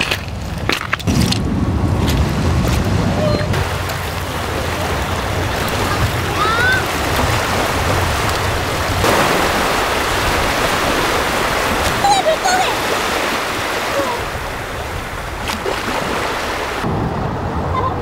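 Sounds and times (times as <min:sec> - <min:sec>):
waves washing onto stony beach: 0:01.1 - 0:17.7.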